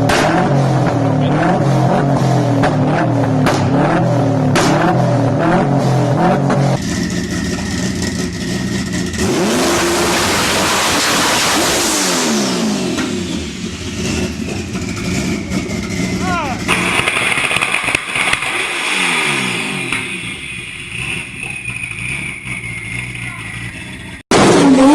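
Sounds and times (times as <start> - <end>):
car at full throttle: 0.0 - 24.9
car engine revving hard: 0.0 - 24.9
exhaust backfire bangs: 0.0 - 24.9.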